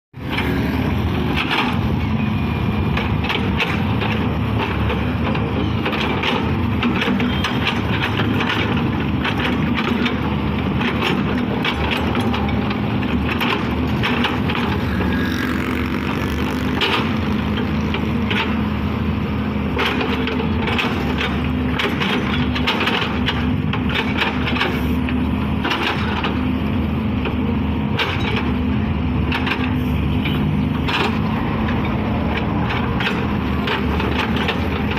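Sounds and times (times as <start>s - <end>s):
excavator diesel engine: 0.2s - 34.9s.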